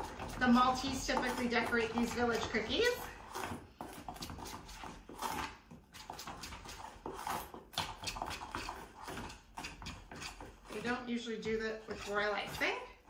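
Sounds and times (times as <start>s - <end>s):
spoon scraping metal bowl: 0.0s - 13.0s.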